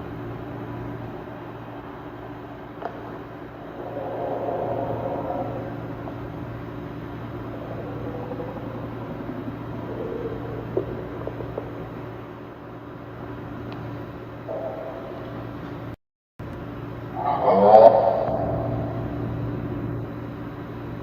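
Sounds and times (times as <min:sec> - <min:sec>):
low drone with hum: 0:00.0 - 0:21.0.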